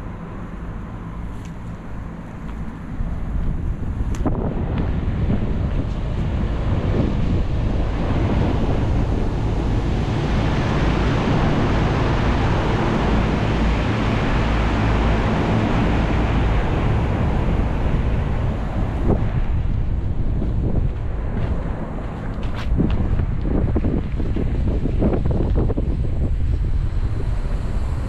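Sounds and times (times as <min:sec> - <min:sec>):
heat pump fans running: 0:00.0 - 0:28.0
wind buffeting microphone: 0:00.0 - 0:28.0.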